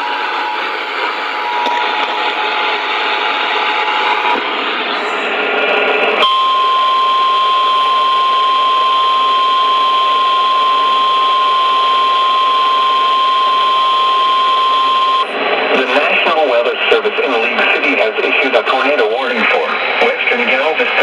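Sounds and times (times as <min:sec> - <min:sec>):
steady high warning tone: 0:00.0 - 0:17.3
harsh static noise: 0:00.0 - 0:21.0.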